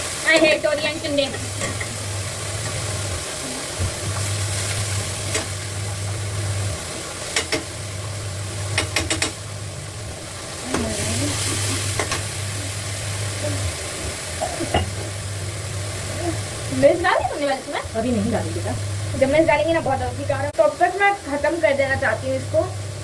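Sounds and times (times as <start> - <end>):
vegetables sizzling in a pan: 0.0 - 23.0.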